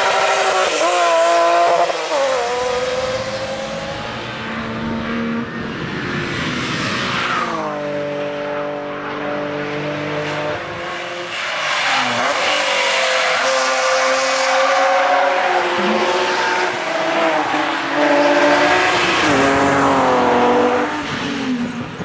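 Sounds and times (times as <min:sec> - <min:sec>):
racing cars passing: 0:00.0 - 0:22.0.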